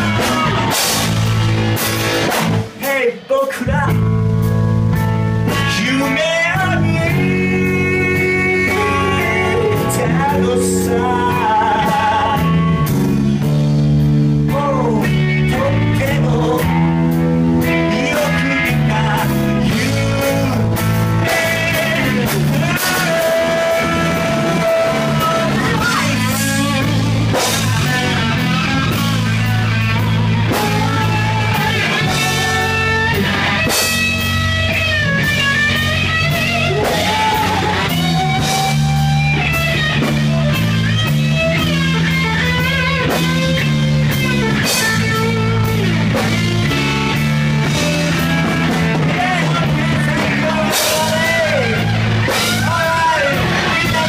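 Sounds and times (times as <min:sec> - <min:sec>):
electric guitar lead: 0:00.0 - 0:02.9, 0:03.6 - 0:54.0
bass guitar: 0:00.0 - 0:54.0
drum kit: 0:00.0 - 0:54.0.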